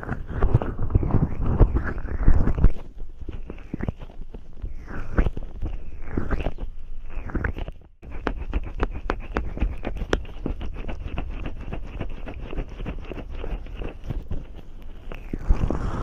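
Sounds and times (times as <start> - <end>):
fingers rubbing cream on microphone: 0.0 - 16.0.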